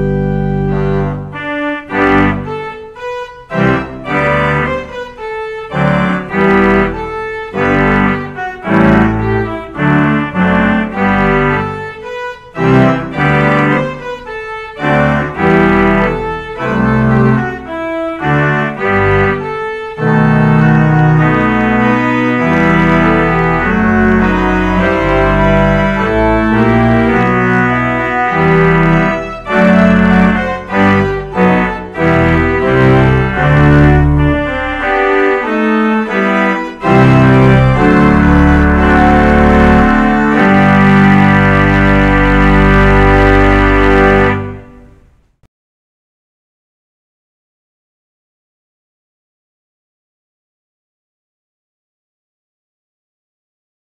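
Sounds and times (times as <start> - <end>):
organ playing chords: 0.0 - 45.2.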